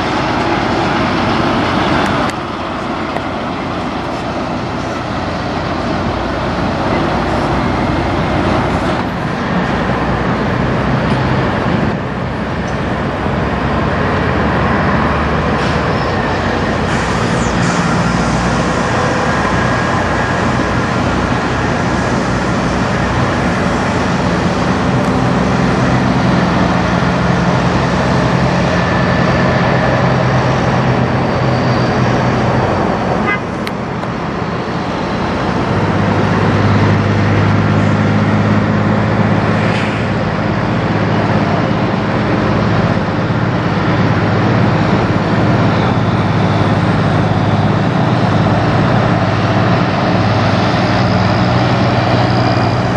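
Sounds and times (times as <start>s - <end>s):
truck diesel engines: 0.0s - 52.9s
tyre and traffic noise: 0.0s - 52.9s.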